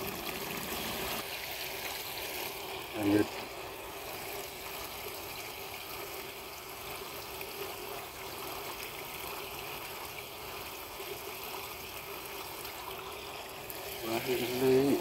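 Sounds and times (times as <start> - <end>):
water trickling in ditch: 0.0 - 15.0.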